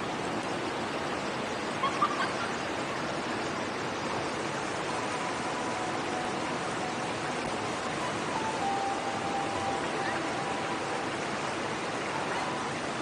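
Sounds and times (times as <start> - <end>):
river water over rapids: 0.0 - 13.0.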